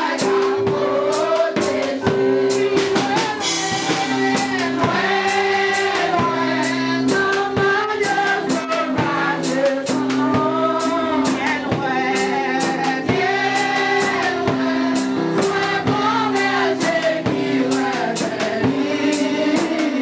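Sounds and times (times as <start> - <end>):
instrumental accompaniment: 0.0 - 20.0
steady drum beat: 0.0 - 20.0
women singing hymn: 0.0 - 20.0.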